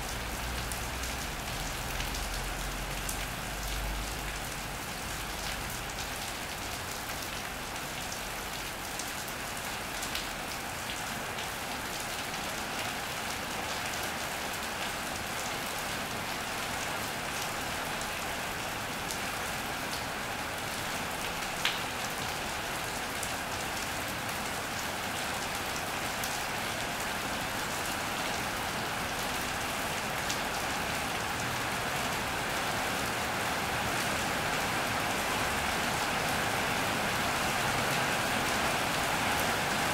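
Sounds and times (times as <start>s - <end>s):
rain on an iron roof: 0.0s - 39.9s.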